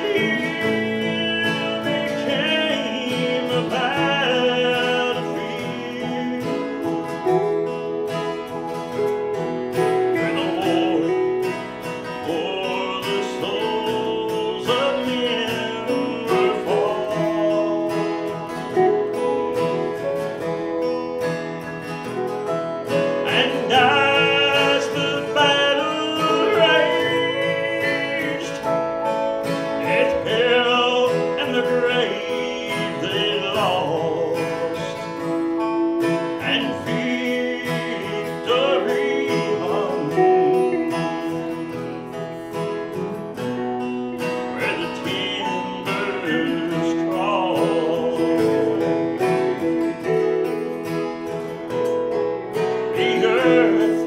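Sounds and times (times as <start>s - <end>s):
man singing: 0.0s - 19.9s, 22.9s - 41.8s, 42.5s - 50.8s, 52.4s - 54.0s
accompanying instrument: 0.0s - 54.0s
strummed acoustic guitar: 0.0s - 54.0s.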